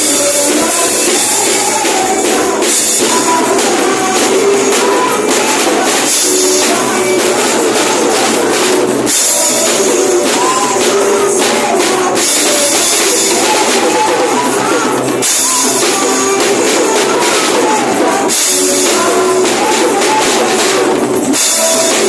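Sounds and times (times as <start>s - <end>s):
high jingling percussion: 0.0s - 22.0s
praise band playing: 0.0s - 22.0s
singing: 0.0s - 22.0s.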